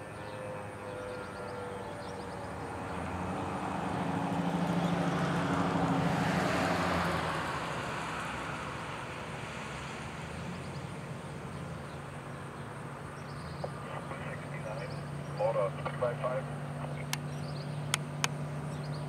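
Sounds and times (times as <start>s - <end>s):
road vehicle passing: 0.0s - 19.0s.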